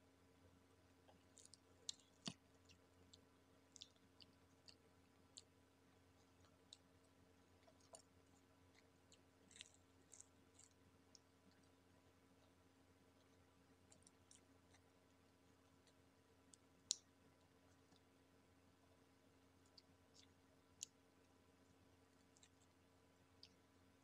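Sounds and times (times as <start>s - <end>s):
low steady hum: 0.0s - 24.0s
crackles of eating fried chicken: 0.8s - 24.0s.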